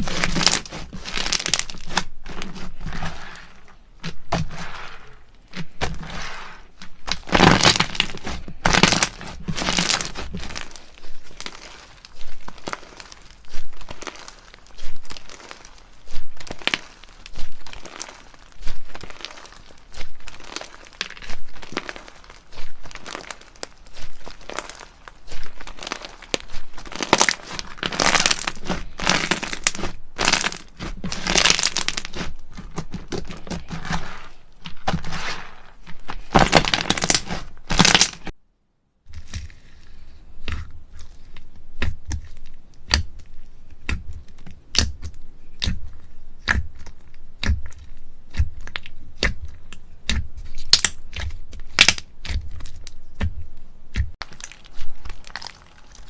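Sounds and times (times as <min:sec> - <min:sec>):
slime crunchy crinkling: 0:00.0 - 0:38.4, 0:39.1 - 0:56.0.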